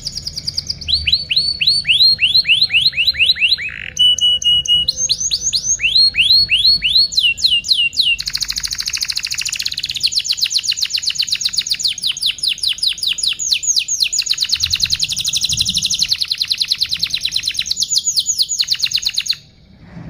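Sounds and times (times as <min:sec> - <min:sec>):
canary singing rapid trill: 0:00.0 - 0:19.6.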